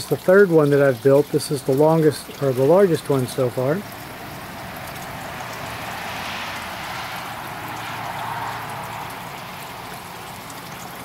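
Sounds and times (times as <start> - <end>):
water trickling through pipes: 0.0 - 11.0.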